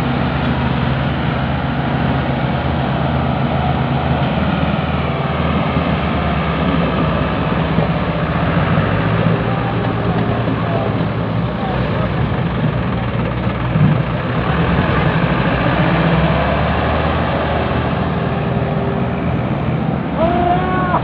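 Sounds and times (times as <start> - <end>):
diesel tractor engines droning: 0.0 - 21.0.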